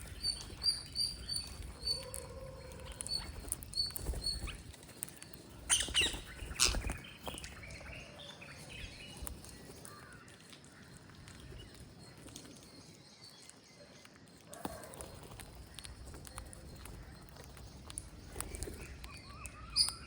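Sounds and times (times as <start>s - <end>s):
parrot chirps and clicks: 0.0s - 20.0s.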